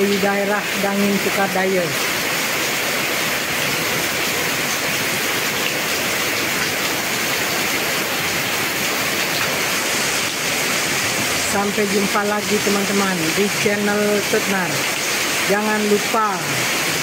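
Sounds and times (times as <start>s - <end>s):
heavy rain on paving and leaves: 0.0s - 17.0s.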